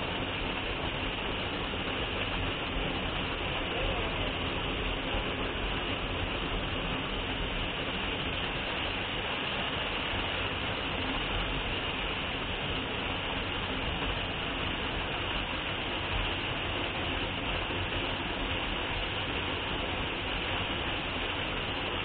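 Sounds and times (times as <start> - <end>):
waterfall rushing onto rock: 0.0 - 22.0.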